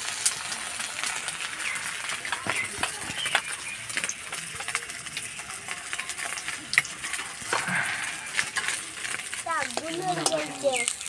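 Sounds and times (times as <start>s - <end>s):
faint sizzle of frying oil: 0.0s - 11.0s.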